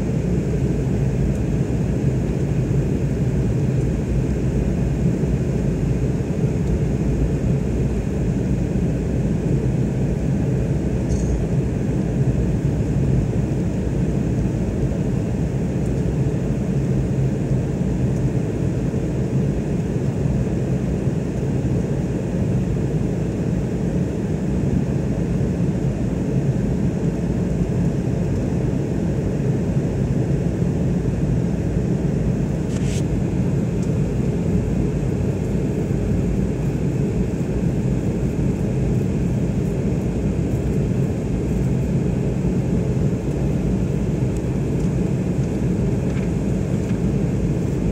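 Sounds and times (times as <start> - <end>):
airliner cabin engine drone: 0.0 - 47.9.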